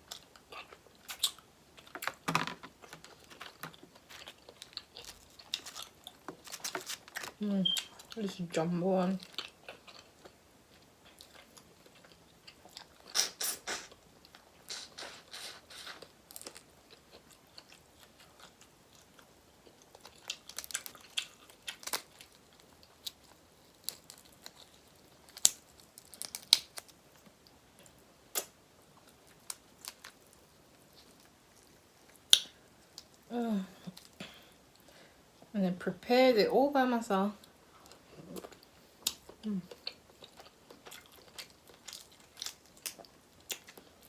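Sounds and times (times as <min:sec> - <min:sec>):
chewing and crunching: 0:00.0 - 0:08.3, 0:09.0 - 0:35.0, 0:37.4 - 0:44.0.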